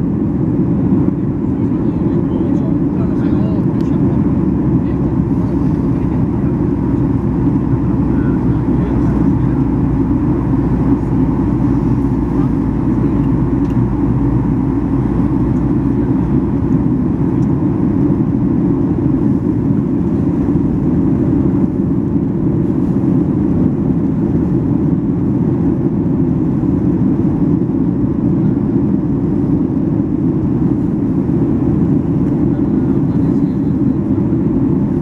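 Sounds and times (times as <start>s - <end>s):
airplane cabin engine hum: 0.0s - 35.0s.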